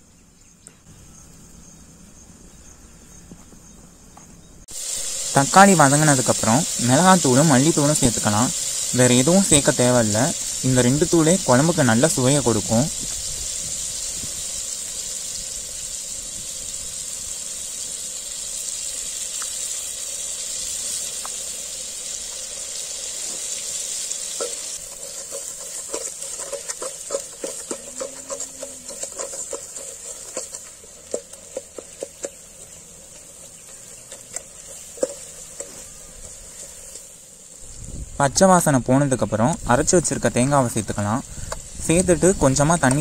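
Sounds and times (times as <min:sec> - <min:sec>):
food sizzling in oil: 0:04.6 - 0:43.0.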